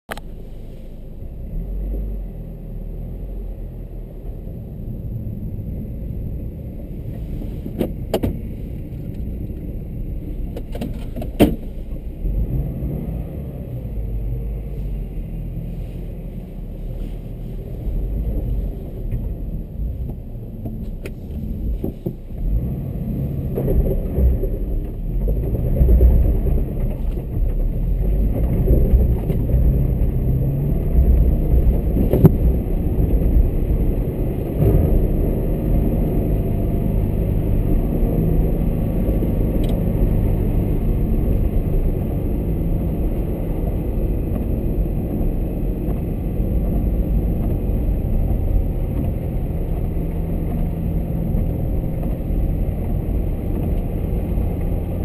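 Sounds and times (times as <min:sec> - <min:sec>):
car engine running: 0:04.2 - 0:55.0.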